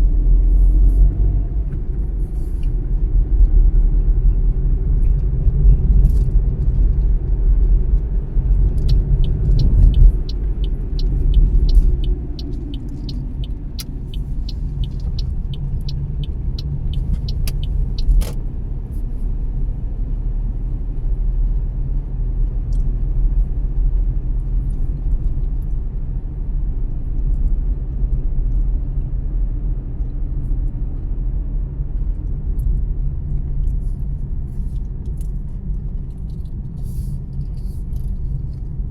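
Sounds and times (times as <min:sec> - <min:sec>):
car road and engine rumble: 0:00.0 - 0:38.9
turn signal ticking: 0:00.1 - 0:38.9.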